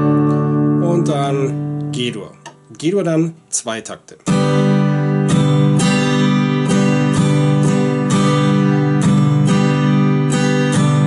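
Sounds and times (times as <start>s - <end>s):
acoustic guitar strumming: 0.0s - 3.6s, 4.2s - 11.0s.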